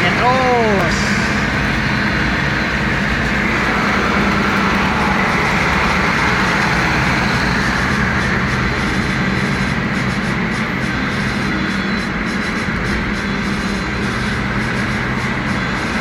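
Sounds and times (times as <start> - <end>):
low engine hum: 0.0 - 16.0
road and wind noise: 0.0 - 16.0.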